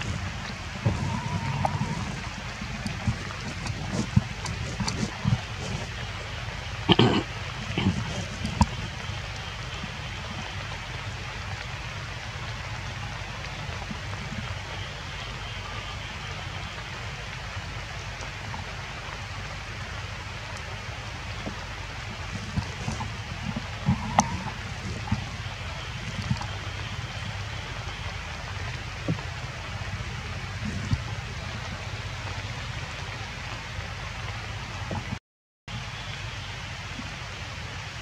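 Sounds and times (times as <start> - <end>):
rain falling on stone: 0.0 - 38.0.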